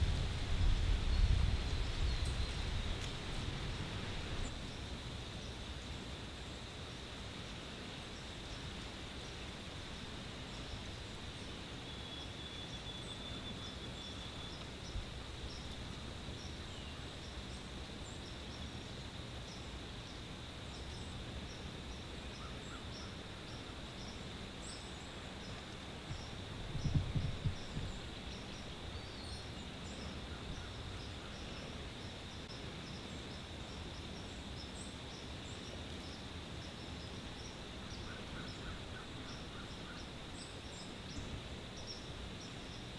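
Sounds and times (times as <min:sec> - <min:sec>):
steady hiss: 0:00.0 - 0:42.9.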